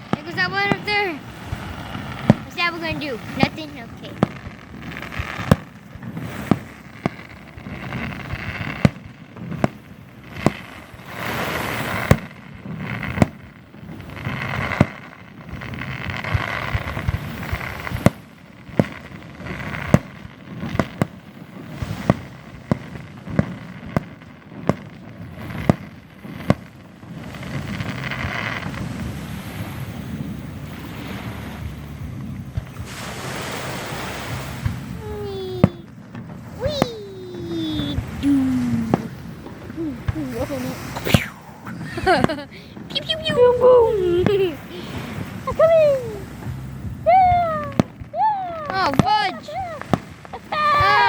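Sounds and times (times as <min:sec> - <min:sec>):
fireworks bangs: 0:00.0 - 0:51.0.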